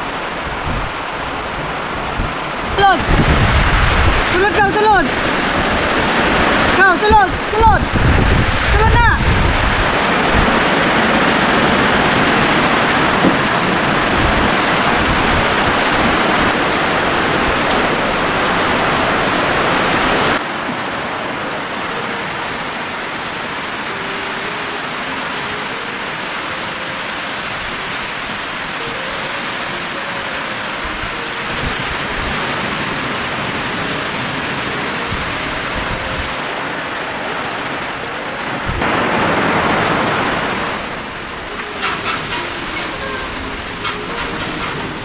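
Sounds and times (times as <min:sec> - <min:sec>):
heavy rain and wind: 0:00.0 - 0:45.0.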